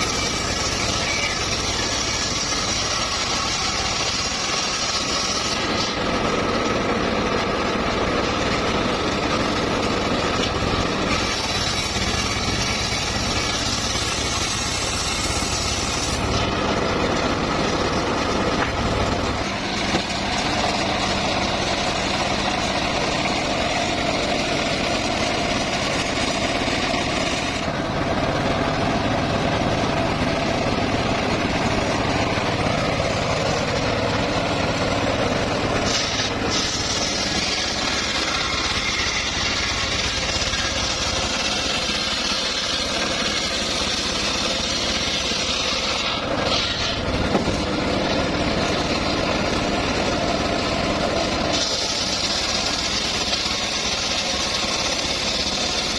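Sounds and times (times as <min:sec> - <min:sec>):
sawmill engine sawing wood: 0:00.0 - 0:55.9.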